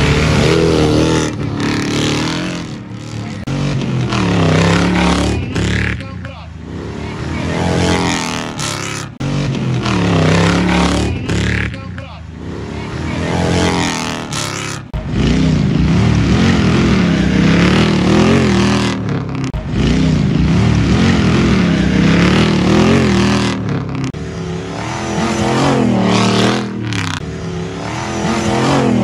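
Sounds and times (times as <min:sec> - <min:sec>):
off-road vehicle engines revving: 0:00.0 - 0:29.0.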